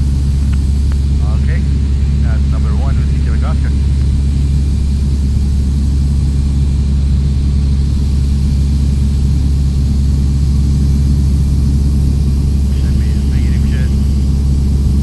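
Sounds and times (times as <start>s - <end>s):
airplane engine drone in cabin: 0.0s - 15.0s.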